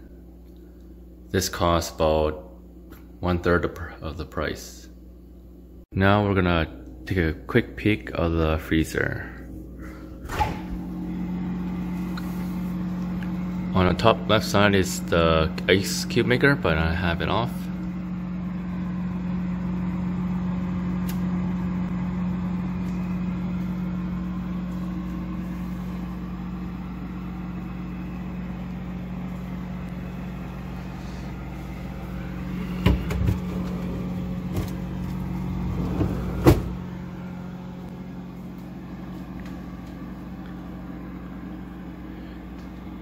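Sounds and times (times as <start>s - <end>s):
freezer humming: 0.0s - 43.0s.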